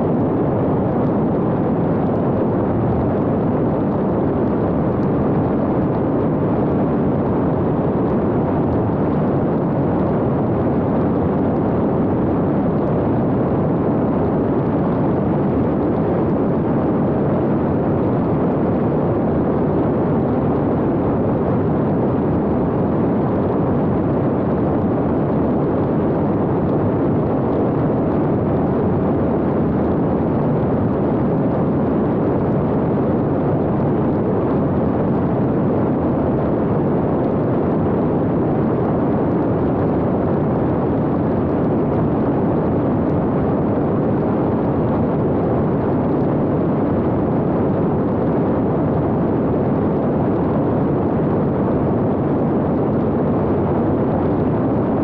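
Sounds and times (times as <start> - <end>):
wind rushing over camera: 0.0 - 55.0.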